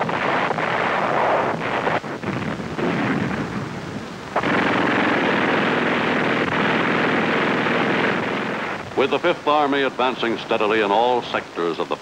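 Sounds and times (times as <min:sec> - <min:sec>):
sharp cracks: 0:00.0 - 0:11.4
distant explosions and gunfire: 0:00.0 - 0:12.0.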